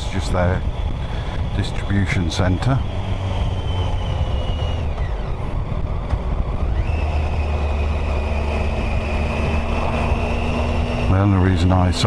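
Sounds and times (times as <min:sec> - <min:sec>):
motorcycle engine rumble: 0:00.0 - 0:12.0
wind: 0:00.0 - 0:12.0.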